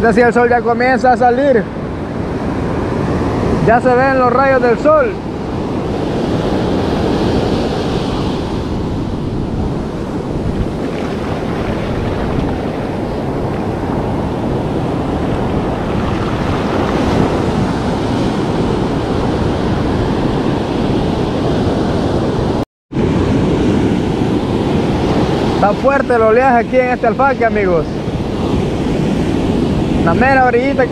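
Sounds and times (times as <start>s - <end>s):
ocean surf breaking: 0.0s - 30.9s.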